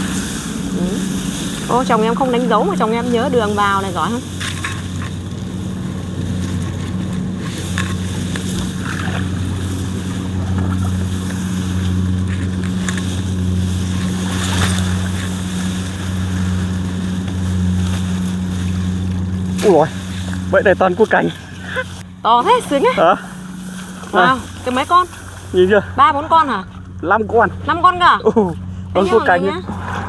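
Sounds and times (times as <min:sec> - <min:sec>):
rustles: 0:00.0 - 0:27.8
low engine drone: 0:00.0 - 0:30.0.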